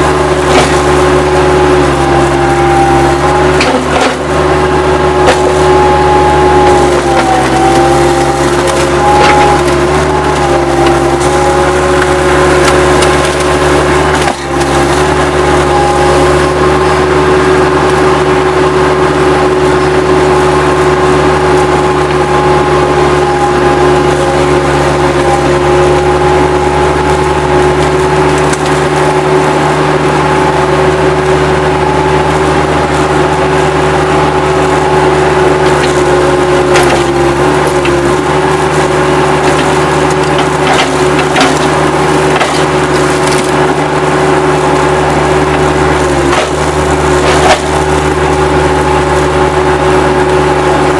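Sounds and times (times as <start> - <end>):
wood debris cracking and crunching: 0.0 - 18.1, 19.1 - 29.6, 32.2 - 50.9
diesel loader engine running: 0.0 - 50.9.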